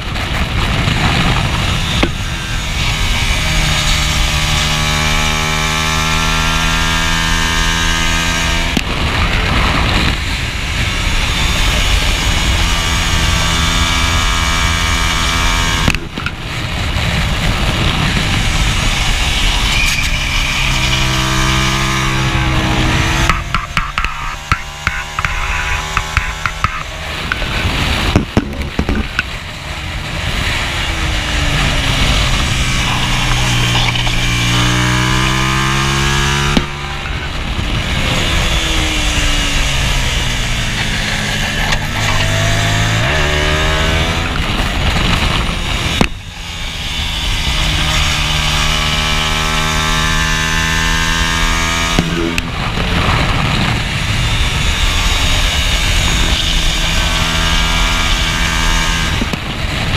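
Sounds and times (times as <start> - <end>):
motorcycle engine accelerating hard: 0.0 - 59.9
wind rush on microphone: 0.0 - 59.9.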